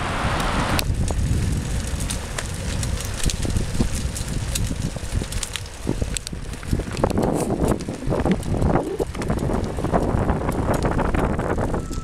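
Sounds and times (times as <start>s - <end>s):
tyres rolling on pavement: 0.0s - 12.0s
wind buffeting microphone: 0.0s - 12.0s.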